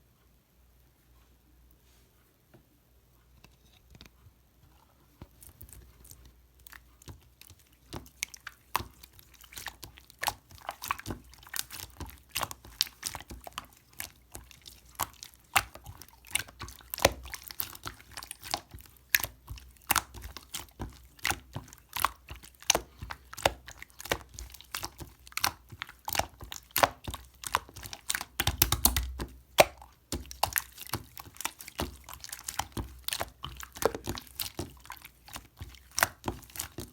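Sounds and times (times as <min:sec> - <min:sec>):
slime squeezed by hand: 0:05.4 - 0:36.9.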